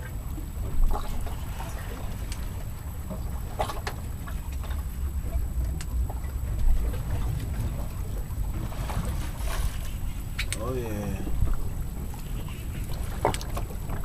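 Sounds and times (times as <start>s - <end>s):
water lapping against boat: 0.0s - 14.0s
wind rumbling on microphone: 0.0s - 14.0s.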